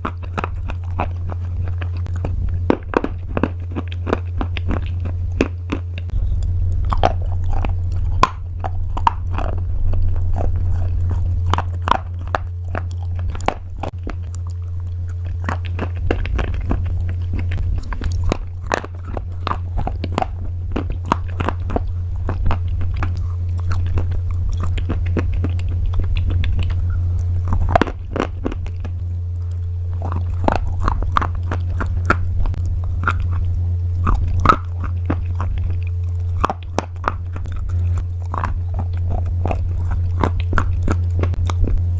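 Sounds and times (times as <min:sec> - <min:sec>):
crunchy pasta being chewed: 0:00.0 - 0:41.9
steady low hum: 0:00.0 - 0:41.9.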